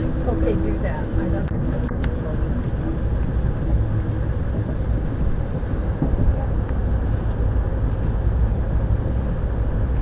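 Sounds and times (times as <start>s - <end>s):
train rumbling from inside: 0.0s - 10.0s.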